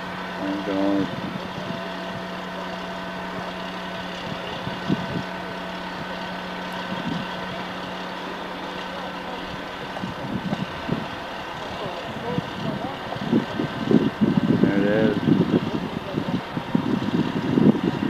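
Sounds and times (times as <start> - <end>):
crane engine idling: 0.0 - 18.0.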